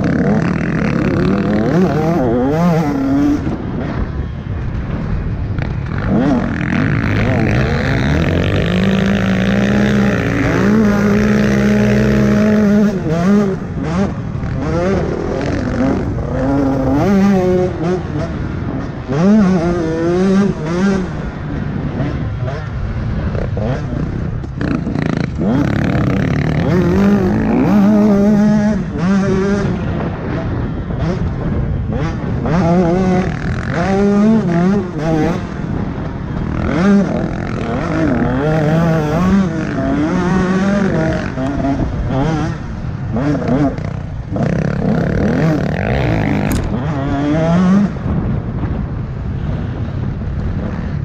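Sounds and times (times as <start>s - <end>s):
motorbike engine revving: 0.0s - 48.6s.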